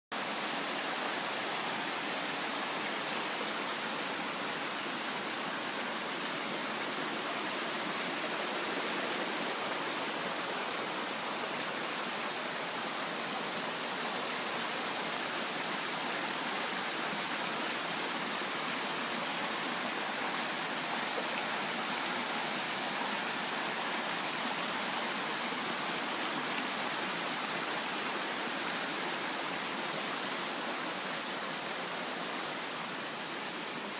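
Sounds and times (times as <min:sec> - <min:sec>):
creek water flowing: 0:00.1 - 0:33.9.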